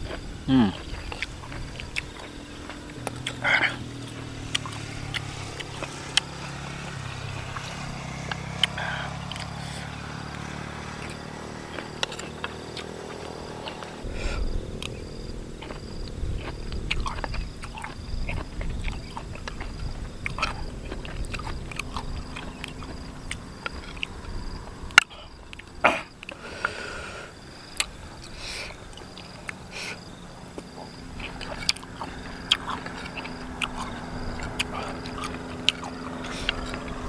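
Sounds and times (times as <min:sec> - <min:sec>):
man chewing: 0:00.0 - 0:37.0.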